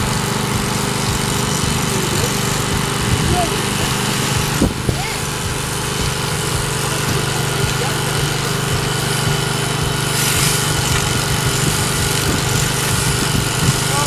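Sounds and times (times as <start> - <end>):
electric shearing machine humming: 0.0 - 14.0.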